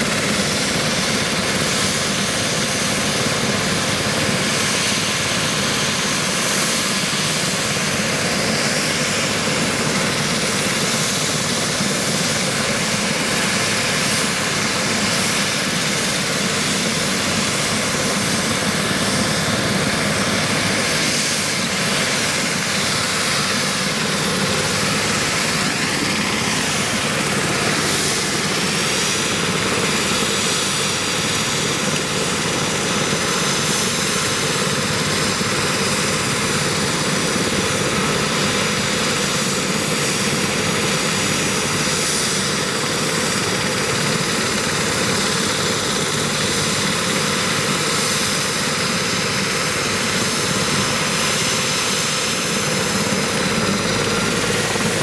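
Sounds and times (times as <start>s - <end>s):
helicopter rotor noise: 0.0s - 55.0s
turbine engine whine: 0.0s - 55.0s.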